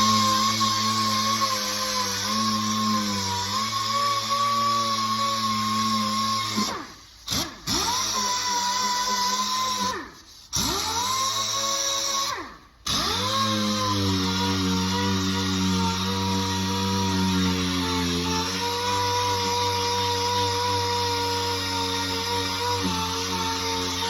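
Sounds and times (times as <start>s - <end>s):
sander running: 0.0s - 24.0s.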